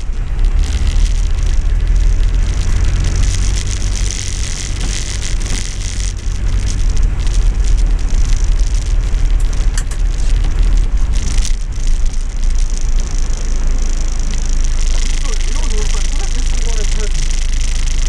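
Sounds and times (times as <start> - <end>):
engine and road rumble: 0.0 - 18.0
rain on roof and windscreen: 0.0 - 18.0.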